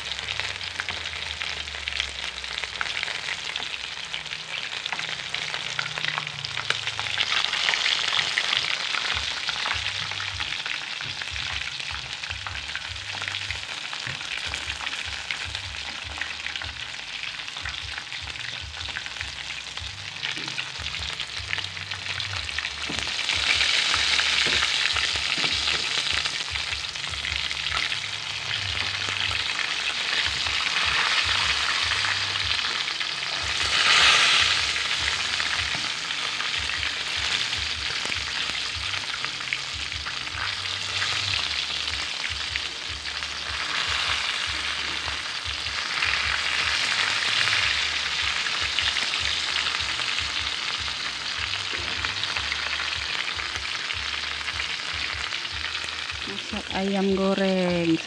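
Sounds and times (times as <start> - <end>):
chicken frying in hot oil: 0.0 - 58.0.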